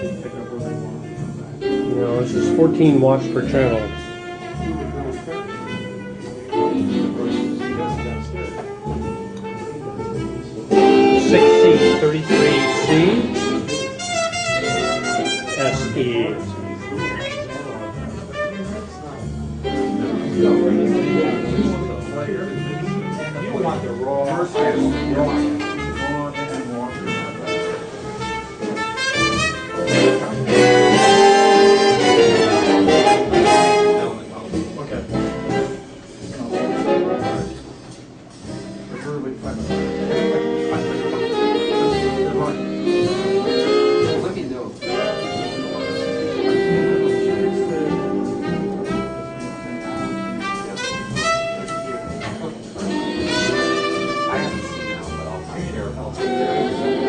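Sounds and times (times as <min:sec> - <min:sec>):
instrumental music over loudspeakers: 0:00.0 - 0:57.0
jazz with horns playing: 0:00.0 - 0:57.0.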